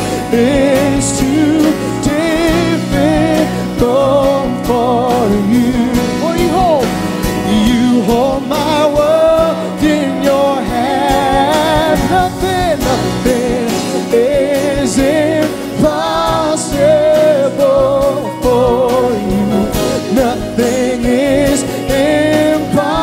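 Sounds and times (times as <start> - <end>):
band with bass and drums: 0.0 - 23.0.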